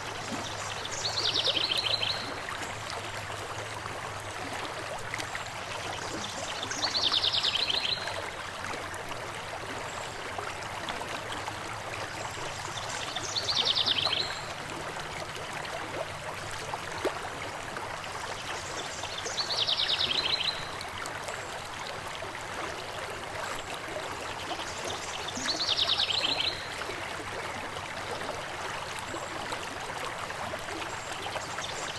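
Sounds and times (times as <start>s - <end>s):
river water flowing: 0.0s - 31.9s.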